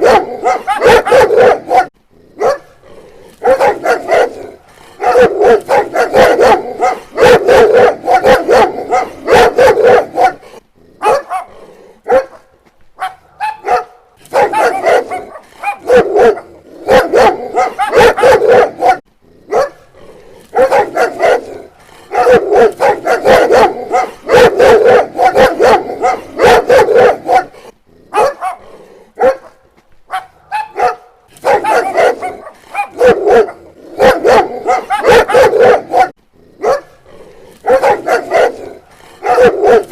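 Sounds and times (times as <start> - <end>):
dog barking: 0.0 - 2.8, 3.4 - 19.9, 20.5 - 37.0, 37.6 - 39.9.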